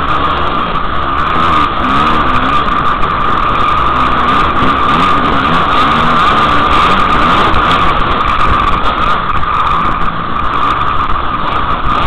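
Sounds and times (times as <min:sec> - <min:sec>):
dirt bike engine revving: 0:00.0 - 0:12.0
wind noise: 0:00.0 - 0:12.0.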